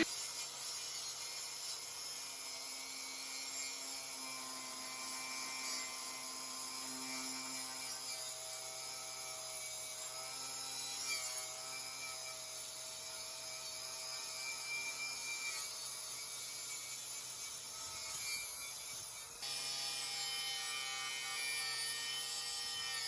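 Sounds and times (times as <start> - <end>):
small electric power tool running: 0.0 - 23.0.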